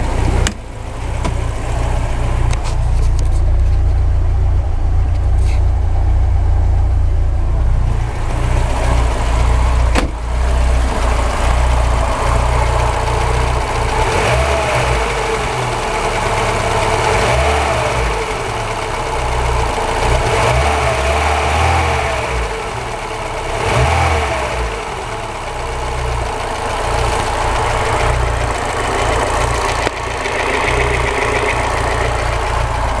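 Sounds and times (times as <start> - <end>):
car engine running: 0.0 - 33.0
engine knocking: 0.0 - 33.0.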